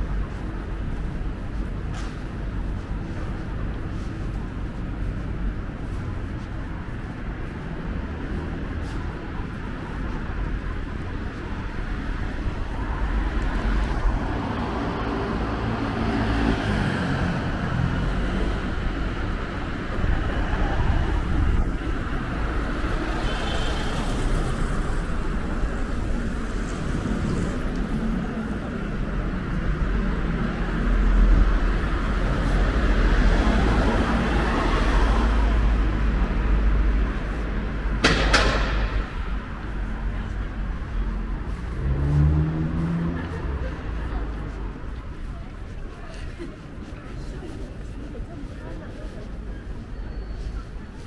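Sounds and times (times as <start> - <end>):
cars driving past: 0.0 - 51.0
low traffic rumble: 0.0 - 51.0.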